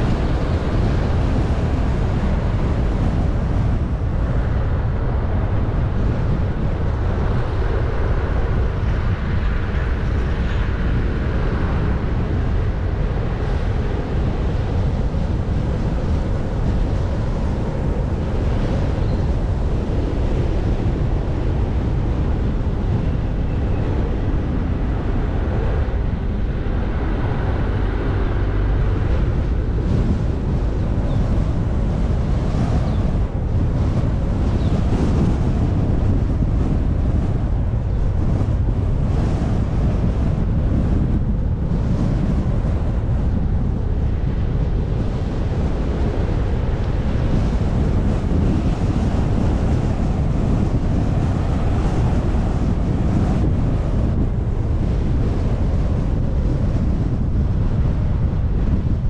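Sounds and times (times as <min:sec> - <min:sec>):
road rumble: 0:00.0 - 0:59.0
wind noise: 0:00.0 - 0:59.0.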